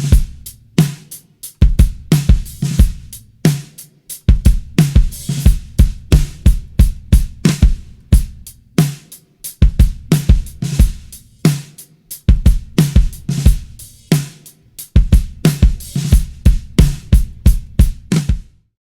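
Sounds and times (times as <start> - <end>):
drum kit playing groove: 0.0 - 18.6.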